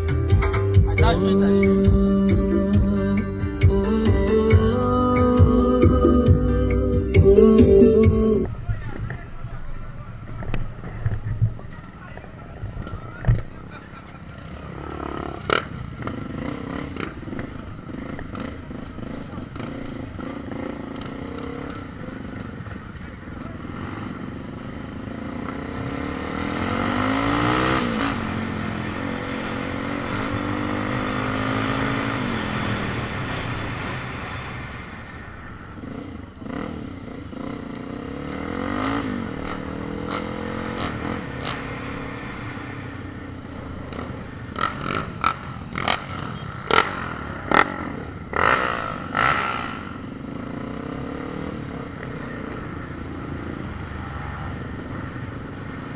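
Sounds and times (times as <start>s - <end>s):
vehicle engine revving: 0.0s - 55.9s.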